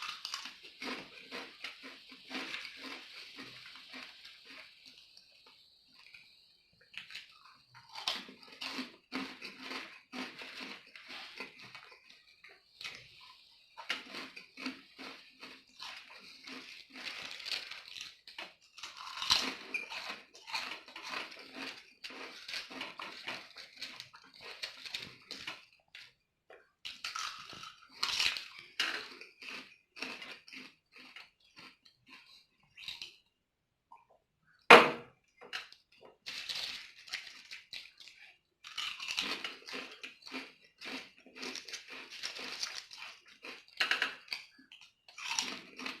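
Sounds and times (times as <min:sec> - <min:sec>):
potato chips crunching: 0:00.0 - 0:05.0, 0:06.9 - 0:33.2, 0:35.6 - 0:46.0.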